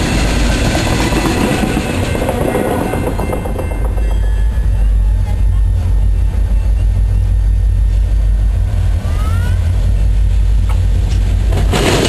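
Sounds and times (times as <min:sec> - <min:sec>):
diesel locomotive engine: 0:00.0 - 0:12.0.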